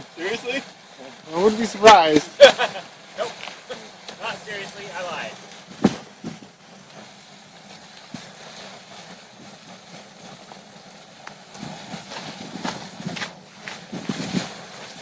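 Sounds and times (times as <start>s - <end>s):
fire crackling and popping: 0.0s - 15.0s
fire hissing: 0.0s - 15.0s.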